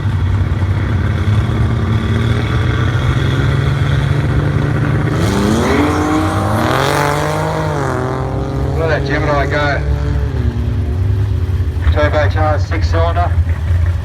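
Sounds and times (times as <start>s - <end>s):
race car engines revving: 0.0s - 14.0s
race car engines running: 0.0s - 14.0s.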